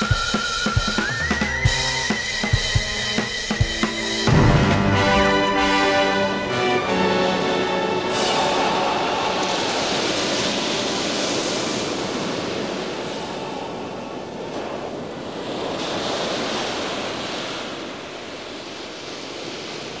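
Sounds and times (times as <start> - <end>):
surf rushing: 0.0 - 20.0.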